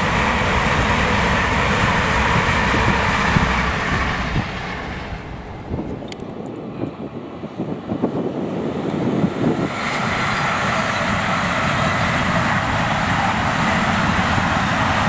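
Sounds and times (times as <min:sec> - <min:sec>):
train passing at speed: 0:00.0 - 0:15.0
wind buffeting microphone: 0:00.0 - 0:15.0.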